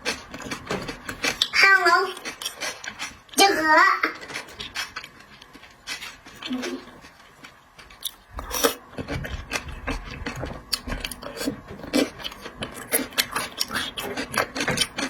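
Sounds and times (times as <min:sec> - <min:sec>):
crackling rasping clicks of eating: 0:00.0 - 0:15.0.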